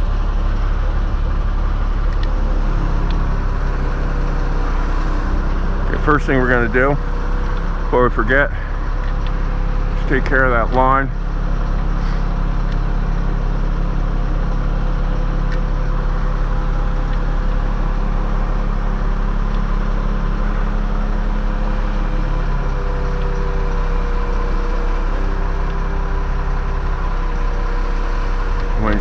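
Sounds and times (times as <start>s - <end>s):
chainsaw idling: 0.8s - 29.0s.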